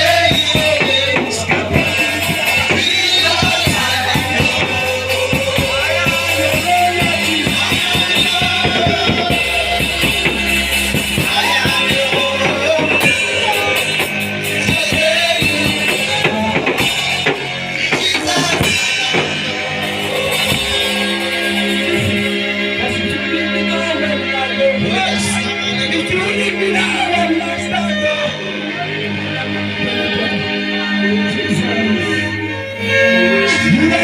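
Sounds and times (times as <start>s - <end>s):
person singing: 0.0s - 28.9s, 30.2s - 34.0s
worship band playing: 0.0s - 34.0s.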